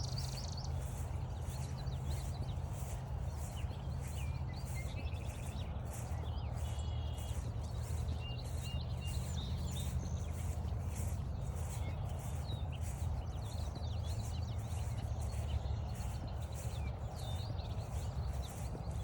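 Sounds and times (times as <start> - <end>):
footsteps on a trail: 0.0 - 19.0
songbirds chirping and whistling: 0.0 - 19.0.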